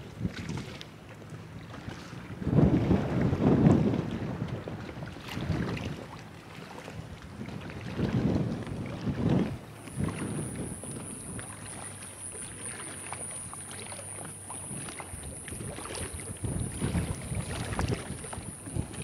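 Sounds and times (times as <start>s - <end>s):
wind buffeting microphone: 0.0s - 0.8s, 1.8s - 19.0s.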